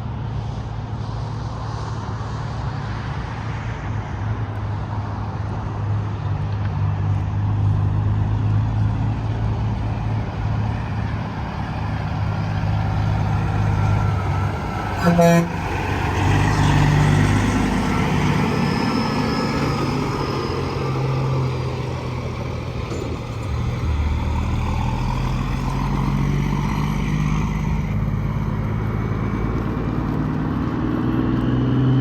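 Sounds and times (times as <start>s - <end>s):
highway tyre roar: 0.0s - 32.0s
truck diesel engine drone: 0.0s - 32.0s.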